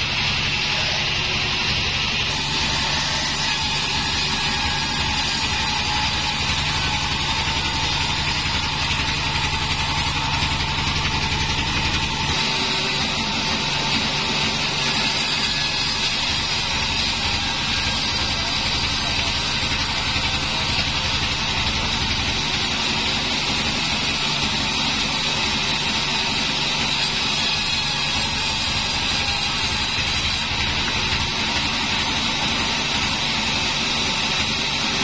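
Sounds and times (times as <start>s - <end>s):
band saw blade sawing: 0.0s - 35.0s
machine drive drone: 0.0s - 35.0s.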